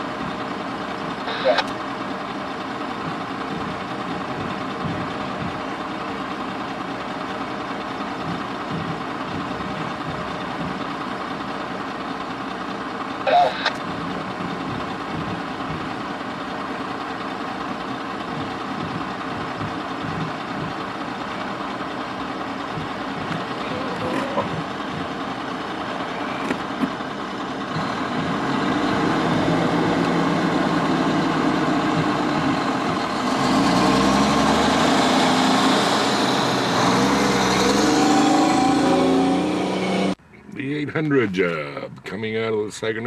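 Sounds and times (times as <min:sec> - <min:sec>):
train wheels rolling on rails: 0:00.0 - 0:39.8.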